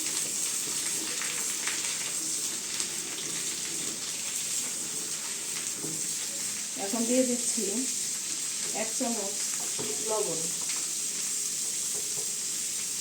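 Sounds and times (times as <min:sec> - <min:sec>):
mango pieces sizzling in oil: 0:00.0 - 0:13.0.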